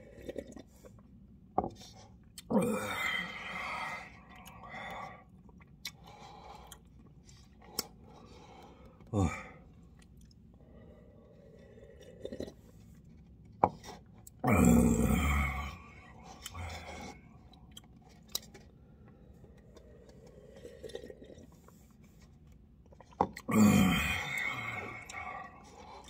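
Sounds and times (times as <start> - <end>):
slurping and gulping: 0.0 - 1.2, 1.8 - 26.0.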